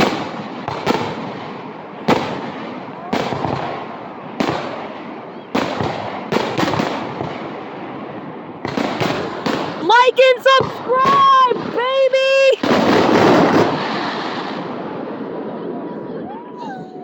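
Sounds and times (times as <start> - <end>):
fireworks crackle: 0.0 - 16.6
fireworks bangs: 0.0 - 17.0.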